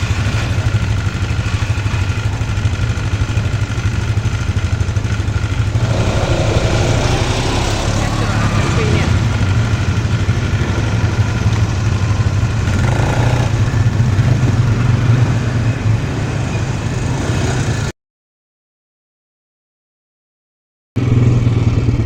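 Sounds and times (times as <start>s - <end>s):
quad bike engine running: 0.0s - 17.9s, 21.0s - 22.0s.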